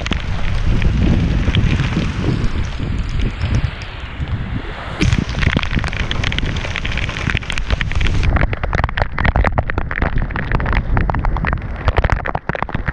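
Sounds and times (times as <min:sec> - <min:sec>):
heavy rain pouring: 0:00.0 - 0:12.9
low rumble of wind: 0:00.0 - 0:12.9.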